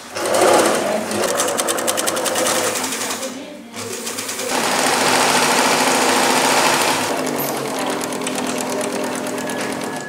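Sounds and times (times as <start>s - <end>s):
sewing machines stitching: 0.0s - 10.0s.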